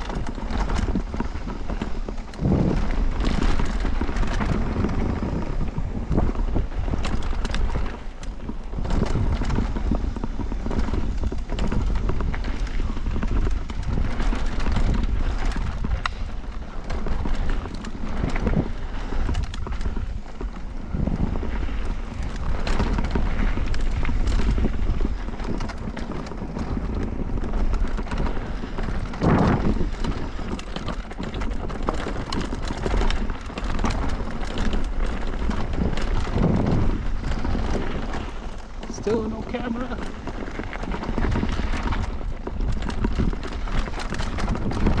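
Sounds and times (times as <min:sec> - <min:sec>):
bike knocking and rattling: 0:00.0 - 0:45.0
bike tyres rolling over rocks: 0:00.0 - 0:45.0
wind buffeting microphone: 0:00.0 - 0:45.0.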